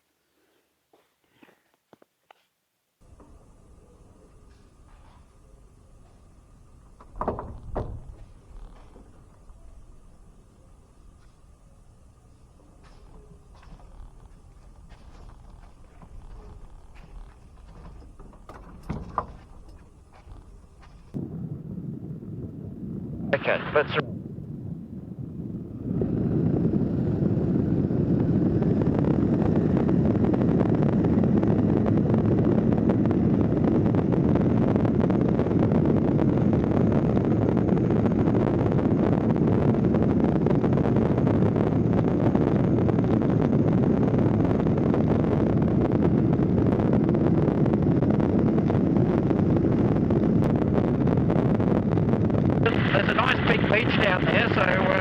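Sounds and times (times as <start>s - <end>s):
light aircraft engine: 3.0s - 55.0s
wind buffeting microphone: 3.0s - 55.0s.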